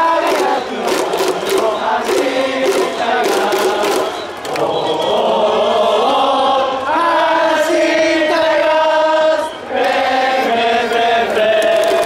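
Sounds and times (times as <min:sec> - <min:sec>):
crowd singing in unison: 0:00.0 - 0:12.0.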